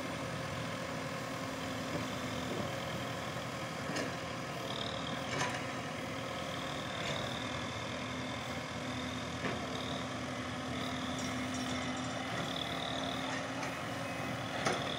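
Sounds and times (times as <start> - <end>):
diesel engines humming: 0.0 - 14.9.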